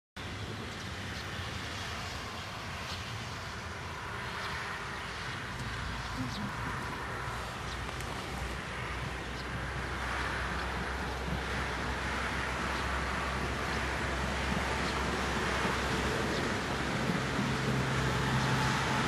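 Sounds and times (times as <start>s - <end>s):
steam train rumble: 0.2s - 19.0s.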